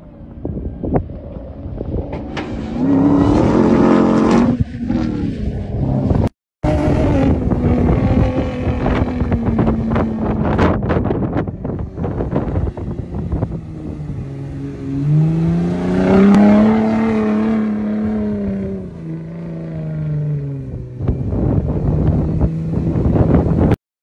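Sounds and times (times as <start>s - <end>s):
rough buffeting noise: 0.0s - 23.8s
truck engine revving: 1.2s - 23.8s.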